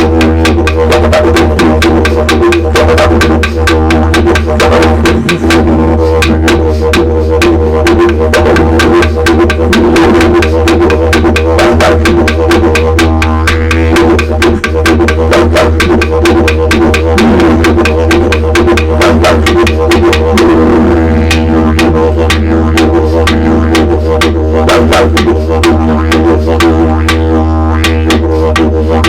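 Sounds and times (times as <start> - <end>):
didgeridoo rhythmic drone: 0.0 - 29.0.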